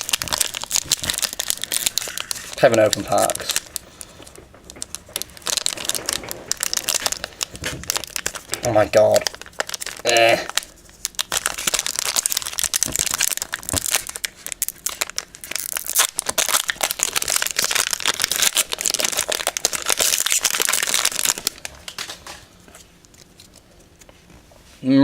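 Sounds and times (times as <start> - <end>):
foil wrapper tearing and crinkling: 0.0 - 22.4.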